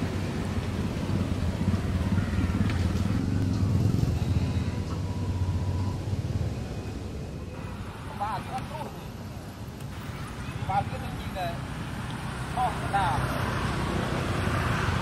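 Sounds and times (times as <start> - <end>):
vehicle engine passing: 0.0 - 9.2, 9.9 - 15.0.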